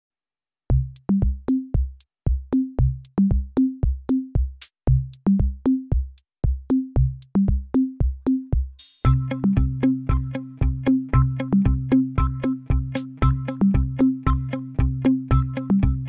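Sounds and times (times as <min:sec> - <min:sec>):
electronic drum machine beat: 0:00.7 - 0:16.0.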